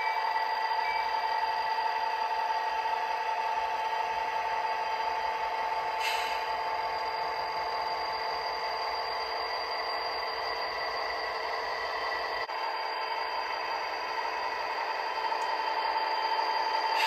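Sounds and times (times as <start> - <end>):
model locomotives rolling on track: 0.0 - 17.0.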